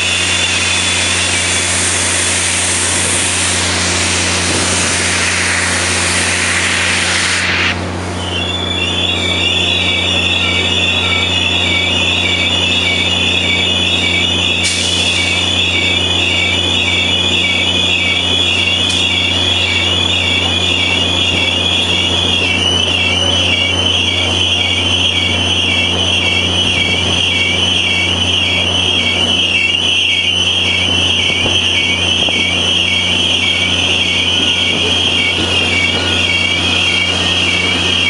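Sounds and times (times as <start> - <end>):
train wheels squealing on rails: 0.0 - 38.0.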